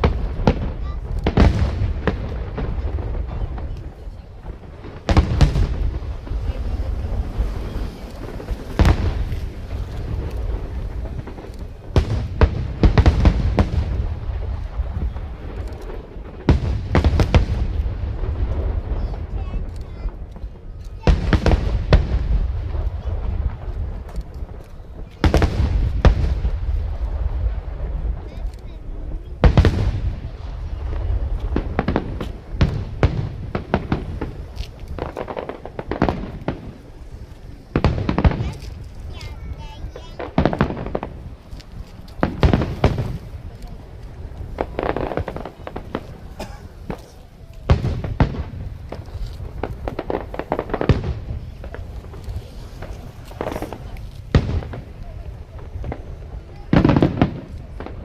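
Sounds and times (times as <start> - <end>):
continuous low rumble: 0.0 - 58.0
fireworks bursting booms: 0.0 - 58.0.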